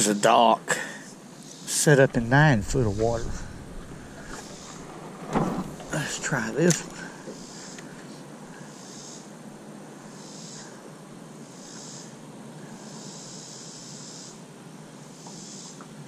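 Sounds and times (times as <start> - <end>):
low hum and hiss: 0.0 - 16.0
high-pitched pulsing hiss: 1.4 - 15.8.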